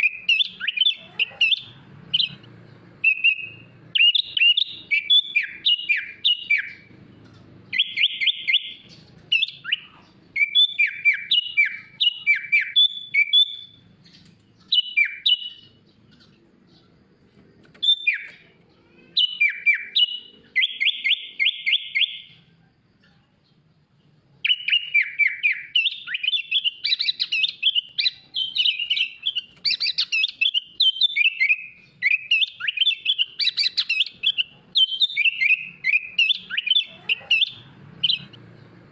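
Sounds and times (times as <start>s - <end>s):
bulbul singing whistles and trills: 0.0s - 38.9s.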